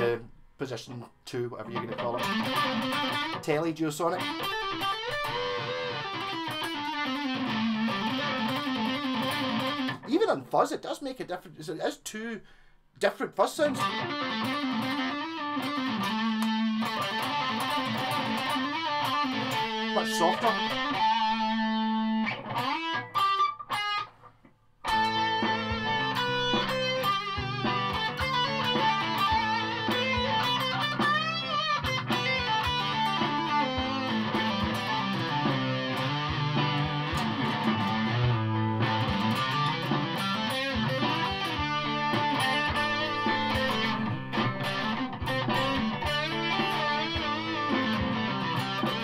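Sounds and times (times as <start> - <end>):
distorted electric guitar lead: 1.8 - 10.1, 13.7 - 24.1, 24.8 - 49.0.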